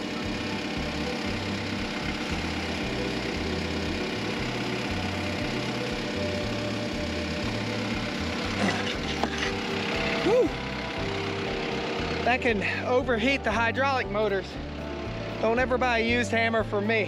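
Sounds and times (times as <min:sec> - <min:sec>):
diesel tractor engine running: 0:00.0 - 0:17.0
low bass line: 0:00.0 - 0:17.0.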